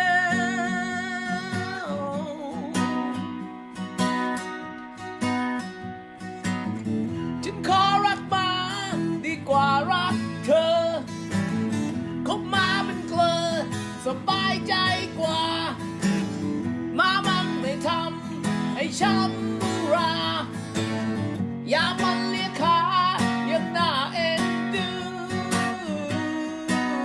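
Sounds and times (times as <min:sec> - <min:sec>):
person singing: 0:00.0 - 0:03.6, 0:07.3 - 0:11.4, 0:12.1 - 0:27.0
punk blues song with guitar: 0:00.0 - 0:27.0.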